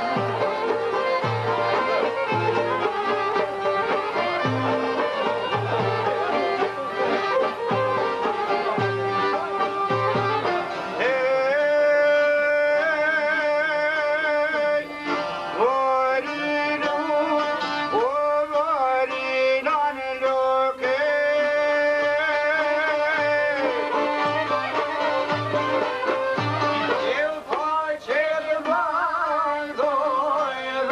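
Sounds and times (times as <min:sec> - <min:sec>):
plucked lutes: 0:00.0 - 0:30.9.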